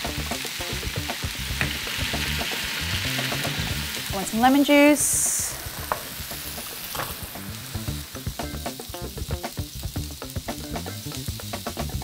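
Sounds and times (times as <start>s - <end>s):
chicken sizzling in oiled pan: 0.0s - 12.0s.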